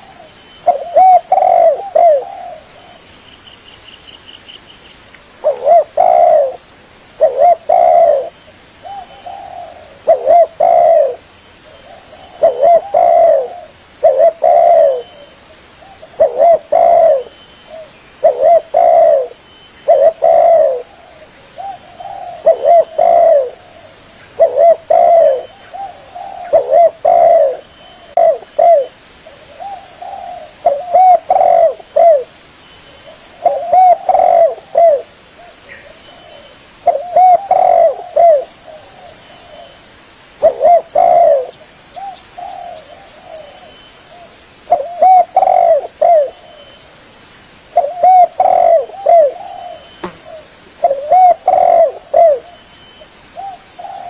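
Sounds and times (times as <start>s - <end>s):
dove cooing: 0.0s - 3.1s, 5.4s - 6.6s, 7.2s - 32.3s, 33.0s - 39.8s, 40.4s - 46.8s, 47.7s - 52.7s, 53.4s - 54.0s.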